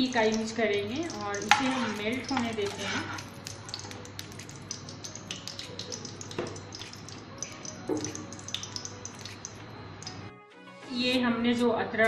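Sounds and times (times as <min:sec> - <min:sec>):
ghee crackling and popping: 0:00.0 - 0:10.3.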